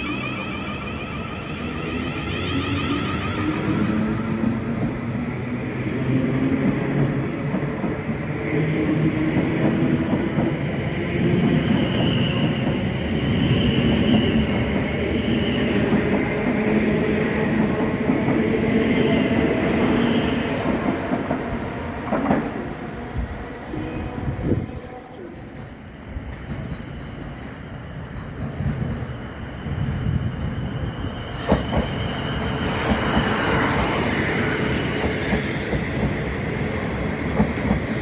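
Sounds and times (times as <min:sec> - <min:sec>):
train rumbling past: 0:00.0 - 0:38.0.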